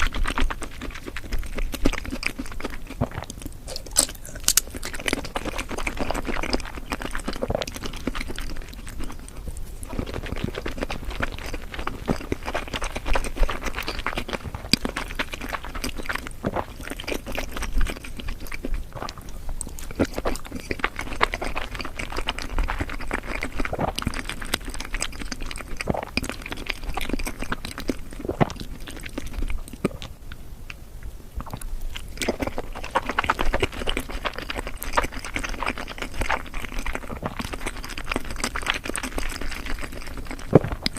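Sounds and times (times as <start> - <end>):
close chewing wet mouth sounds: 0.0 - 40.9
small mouth clicks and smacks: 0.0 - 40.9.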